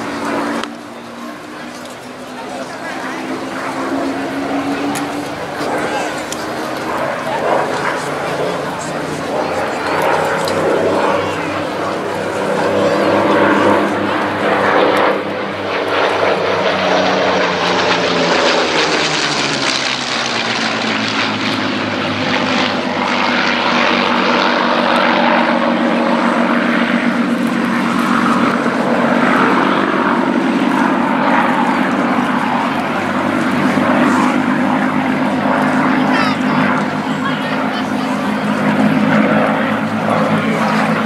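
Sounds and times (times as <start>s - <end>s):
propeller planes flying over: 0.0s - 41.0s.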